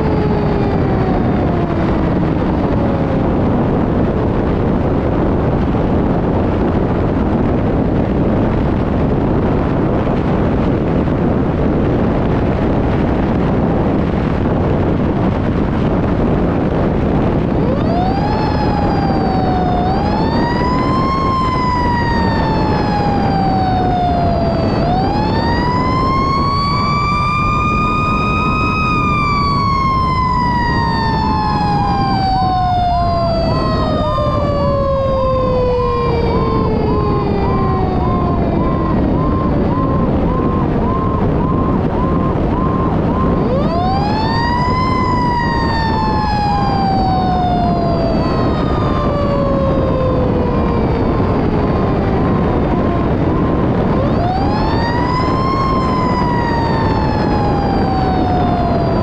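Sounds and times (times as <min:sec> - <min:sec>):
pulsing siren tone: 0:00.0 - 0:59.0
road and engine noise: 0:00.0 - 0:59.0.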